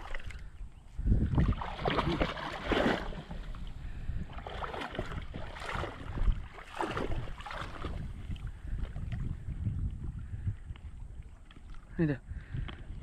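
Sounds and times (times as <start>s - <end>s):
water sloshing and splashing: 0.0s - 13.0s
wind buffeting microphone: 0.0s - 13.0s.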